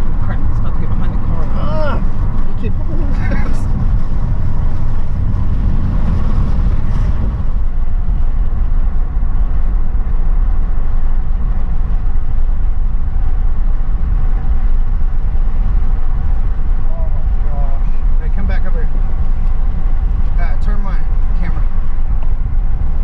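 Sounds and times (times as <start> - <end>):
car driving on unpaved road: 0.0 - 23.0.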